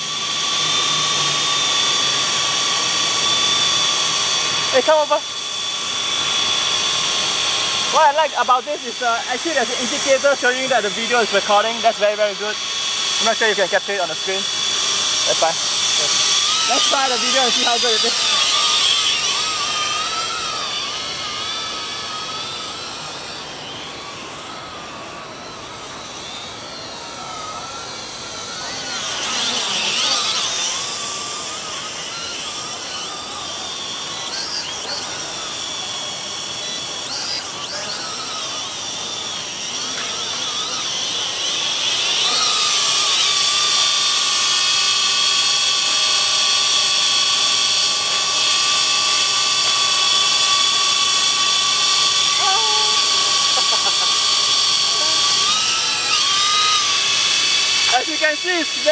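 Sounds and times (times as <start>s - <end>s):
drone propellers whining: 0.0s - 58.9s.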